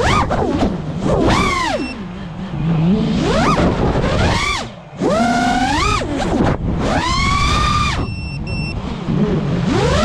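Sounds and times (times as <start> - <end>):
drone motors and propellers whining: 0.0 - 10.0.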